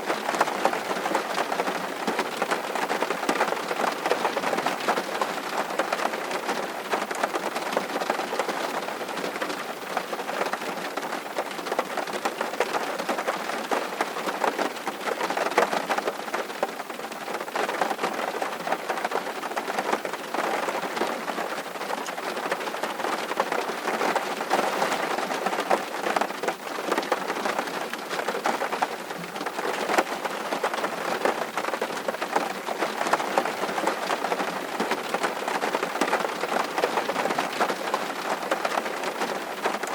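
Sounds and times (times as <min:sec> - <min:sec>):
raindrops pattering: 0:00.0 - 0:39.9.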